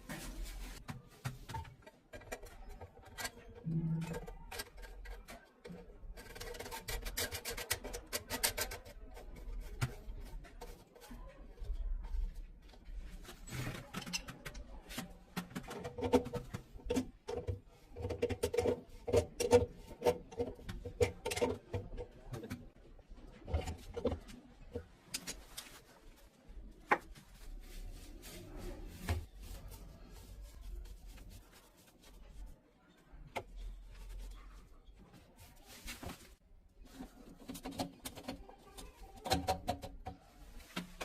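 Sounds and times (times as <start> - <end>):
scraping and rubbing on plastic pipe: 0.0 - 32.6, 33.2 - 41.0.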